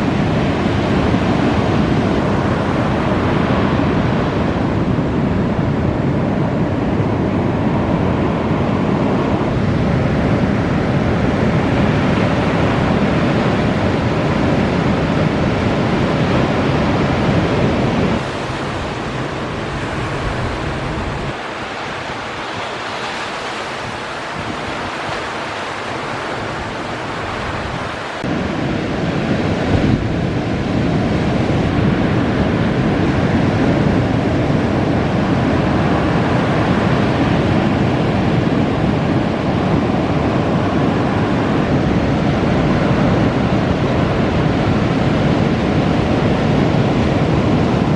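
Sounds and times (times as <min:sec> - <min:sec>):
ocean surf breaking: 0:00.0 - 0:47.9
wind buffeting microphone: 0:00.0 - 0:47.9.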